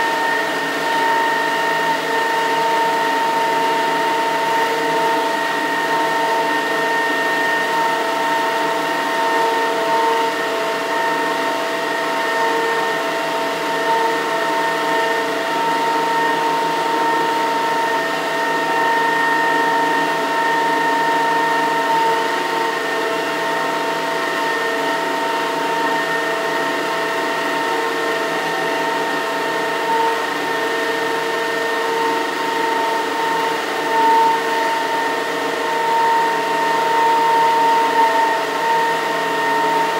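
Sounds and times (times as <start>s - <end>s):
turbine generator whine: 0.0s - 39.9s.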